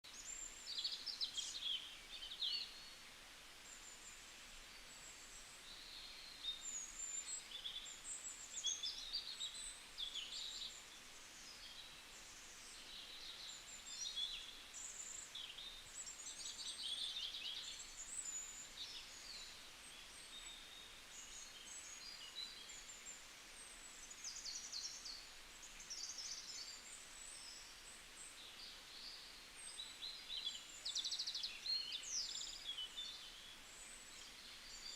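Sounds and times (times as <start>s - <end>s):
faint background hiss: 0.0s - 34.9s
small birds chirping: 0.0s - 34.9s.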